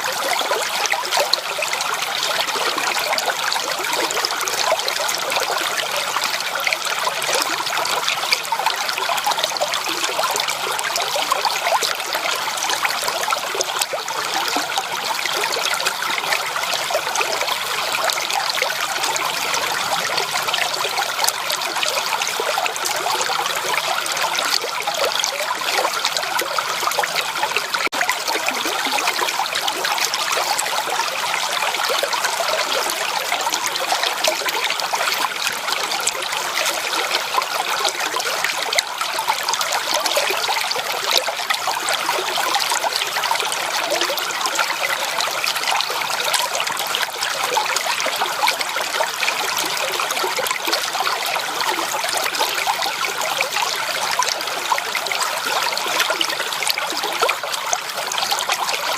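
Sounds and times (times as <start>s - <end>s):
creek water trickling over stones: 0.0s - 58.9s.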